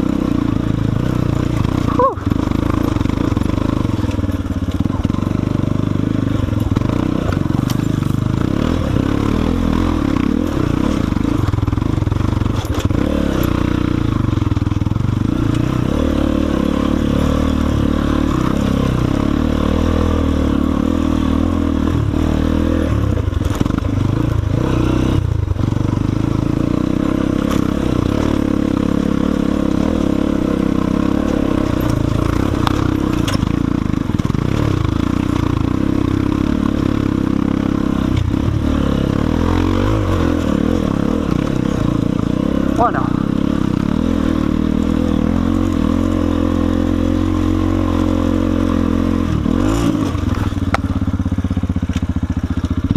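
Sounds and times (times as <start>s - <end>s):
dirt bike engine running: 0.0s - 52.9s
knocks and clatter from bike: 1.4s - 9.3s, 10.0s - 19.3s, 20.4s - 42.5s, 49.5s - 52.9s.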